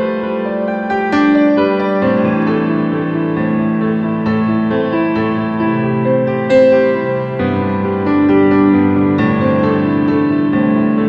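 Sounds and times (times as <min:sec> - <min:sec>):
soft slow piano music: 0:00.0 - 0:11.0.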